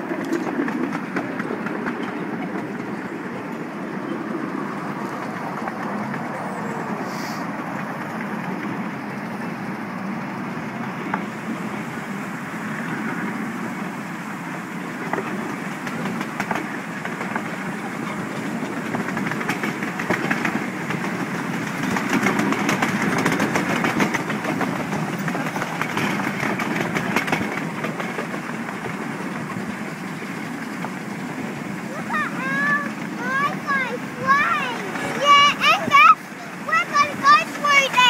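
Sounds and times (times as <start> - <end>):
miniature train rolling on track: 0.0 - 38.0
wheels clicking over rail joints: 0.0 - 38.0.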